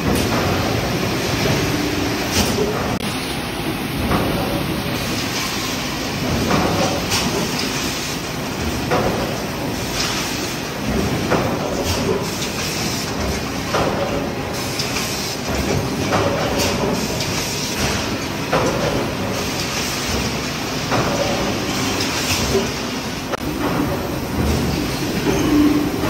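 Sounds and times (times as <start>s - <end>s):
heavy machine noise: 0.0s - 26.0s.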